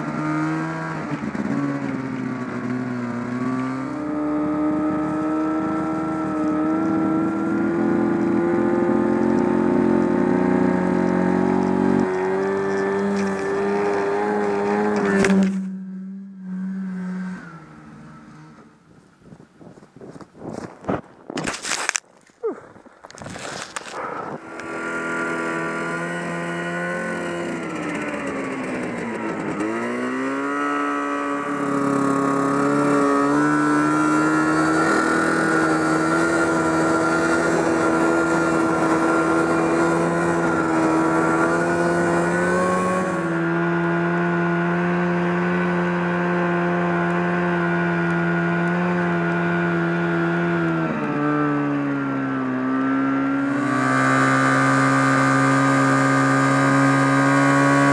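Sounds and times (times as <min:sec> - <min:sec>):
snowmobile engine running: 0:00.0 - 0:18.9, 0:19.7 - 0:57.9.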